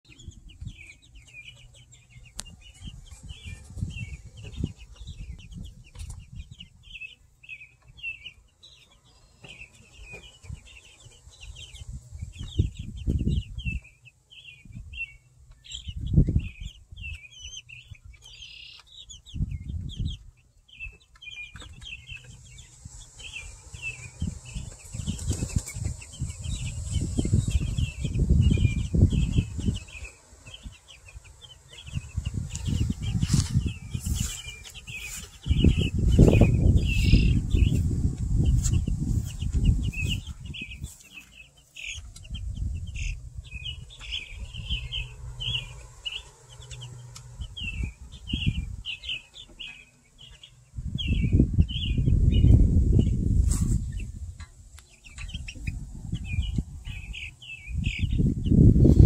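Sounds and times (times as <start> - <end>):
chicks peeping: 0.0 - 59.0
low microphone rumble: 0.1 - 7.2, 10.4 - 18.2, 21.8 - 54.4, 55.1 - 59.0.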